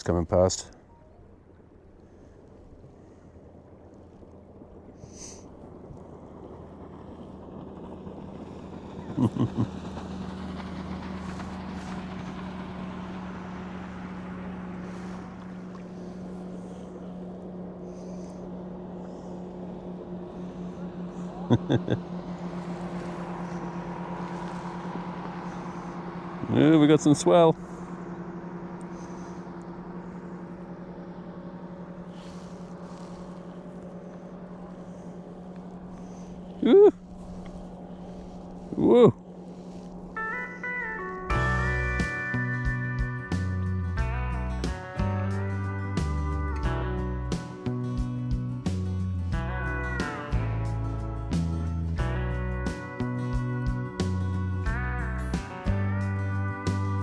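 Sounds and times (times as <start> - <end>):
motorboat engine drone: 0.0 - 57.0.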